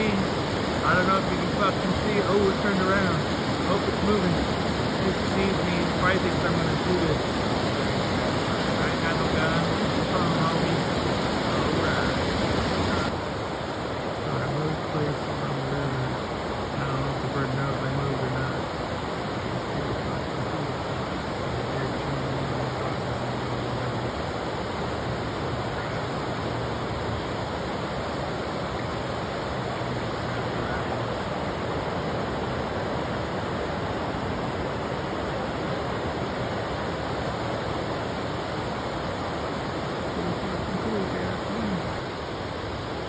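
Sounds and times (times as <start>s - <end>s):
fast-flowing river rushing: 0.0s - 43.0s.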